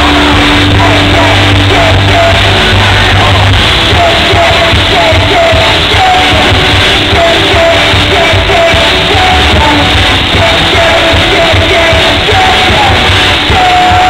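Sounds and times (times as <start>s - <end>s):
crowd yelling: 0.0s - 14.0s
live pop-rock band playing: 0.0s - 14.0s
man singing: 0.0s - 14.0s.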